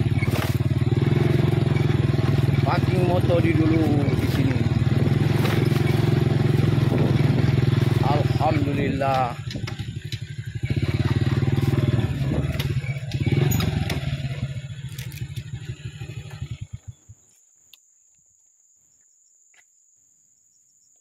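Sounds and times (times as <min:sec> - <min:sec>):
small engine puttering: 0:00.0 - 0:17.2.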